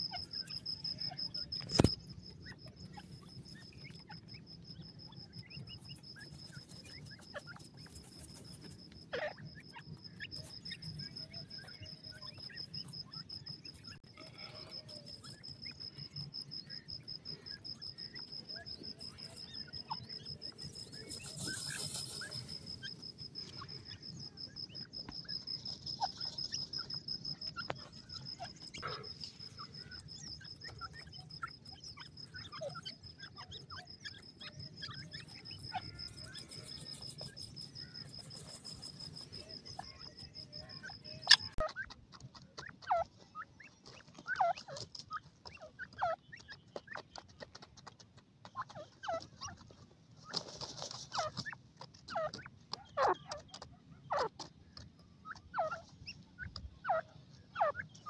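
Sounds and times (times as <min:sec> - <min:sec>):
francolins calling: 0:00.0 - 0:49.7, 0:51.1 - 0:58.0.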